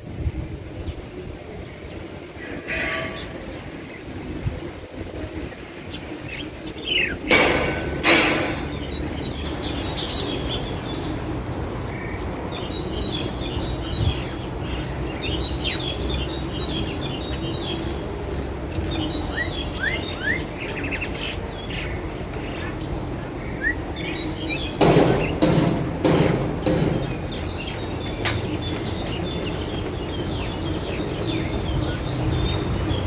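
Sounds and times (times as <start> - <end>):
low rumble of factory noise: 0.0 - 33.0
songbirds chirping: 0.0 - 33.0.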